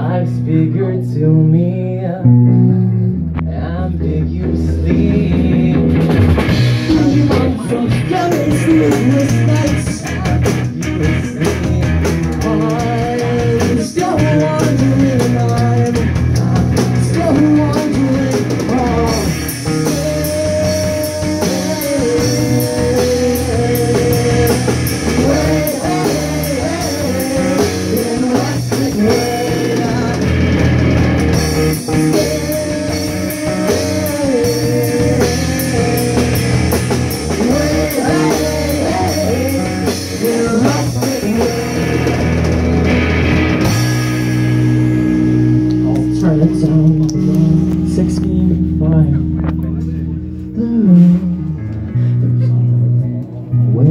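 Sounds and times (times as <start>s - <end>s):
man singing: 0.0s - 43.0s, 45.8s - 52.9s
bass guitar: 0.0s - 53.9s
distorted electric guitar: 0.0s - 53.9s
drum kit: 3.2s - 52.7s.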